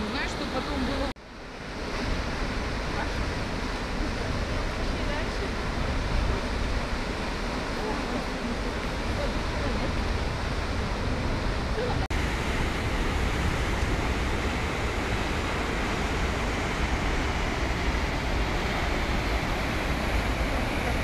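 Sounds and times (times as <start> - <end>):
waterfall and rapids rushing: 0.0 - 21.0.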